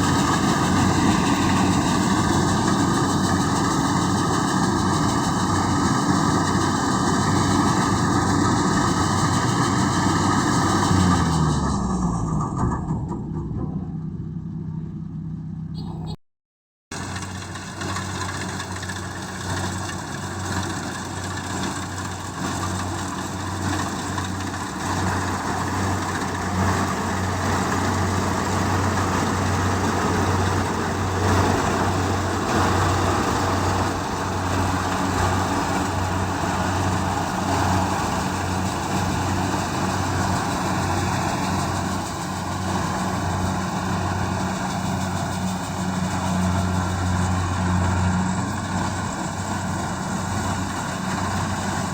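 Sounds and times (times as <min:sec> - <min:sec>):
combine harvester running: 0:00.0 - 0:16.2, 0:16.9 - 0:51.9.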